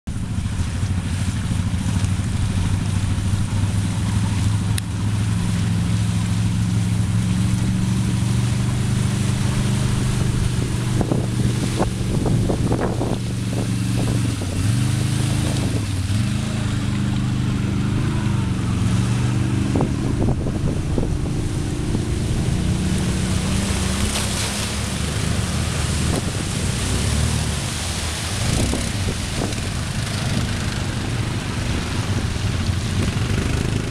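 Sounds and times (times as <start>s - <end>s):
quad bike engines: 0.1s - 33.9s
water splashing around wheels: 0.1s - 33.9s.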